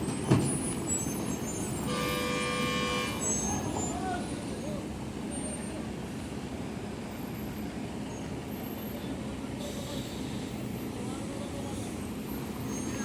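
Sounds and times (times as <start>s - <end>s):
heavy vehicles rumbling in traffic: 0.0s - 13.0s.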